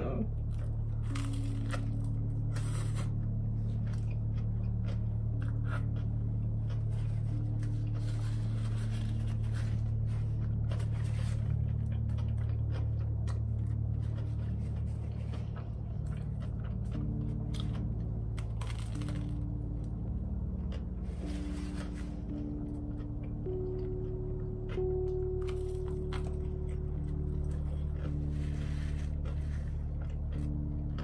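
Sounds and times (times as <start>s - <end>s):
steady low hum: 0.0s - 31.0s
person chewing crusty bread: 0.2s - 31.0s.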